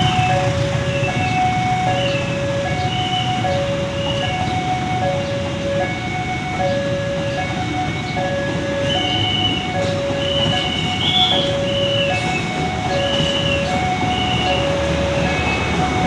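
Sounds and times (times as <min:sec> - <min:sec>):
train coaches rumbling past: 0:00.0 - 0:16.0.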